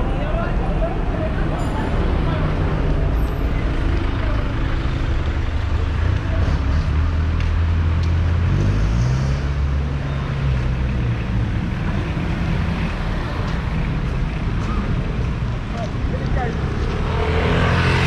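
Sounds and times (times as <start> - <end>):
road noise rumble: 0.0 - 18.0
vehicle engine humming and revving: 0.7 - 18.0.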